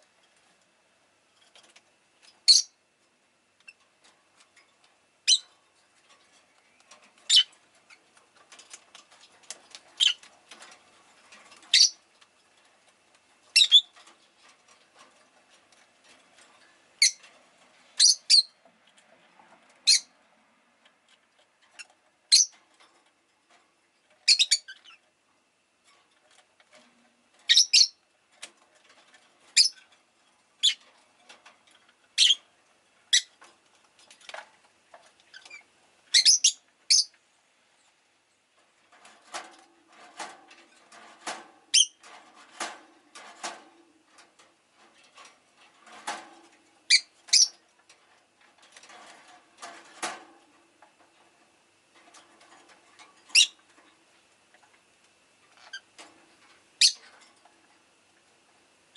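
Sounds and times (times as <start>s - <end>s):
soft clicks and rustles: 0.0s - 18.0s, 18.6s - 58.9s.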